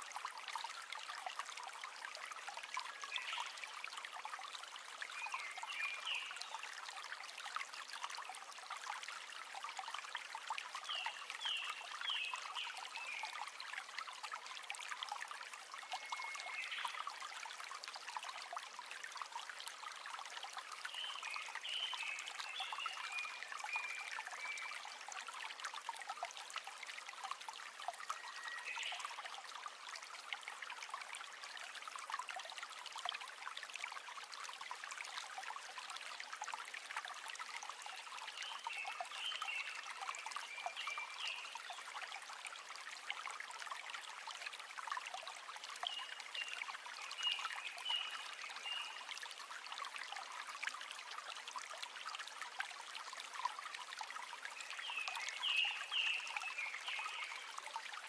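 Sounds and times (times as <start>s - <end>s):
river water babbling over stones: 0.0s - 58.0s.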